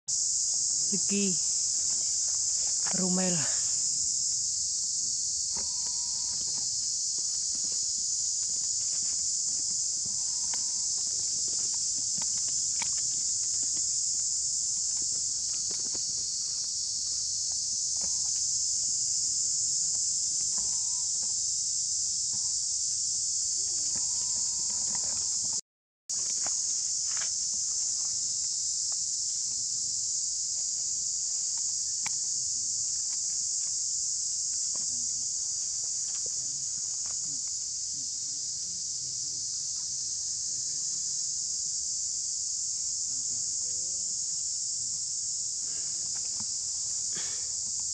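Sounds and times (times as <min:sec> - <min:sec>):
insects droning: 0:00.1 - 0:47.9.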